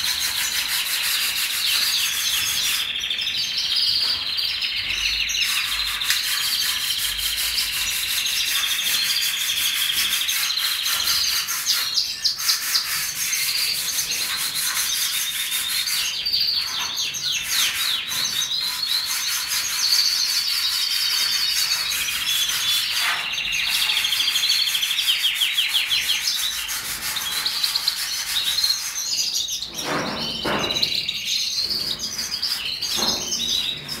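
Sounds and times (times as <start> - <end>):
caged birds chirping and trilling: 0.0 - 34.0.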